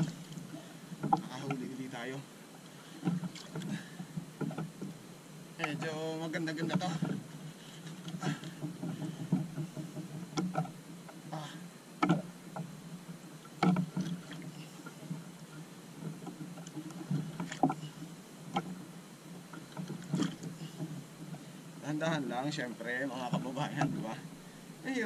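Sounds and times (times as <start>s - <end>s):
water slapping against hull: 0.0s - 25.0s.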